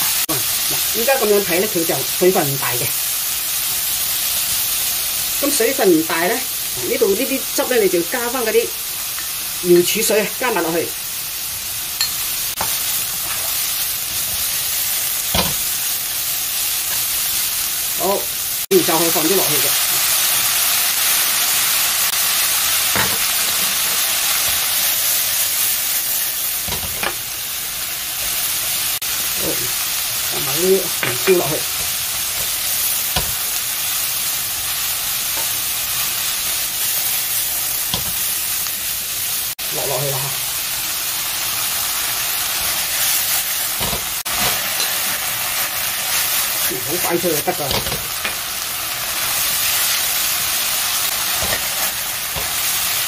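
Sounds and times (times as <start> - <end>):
vegetables sizzling in a wok: 0.0 - 53.0.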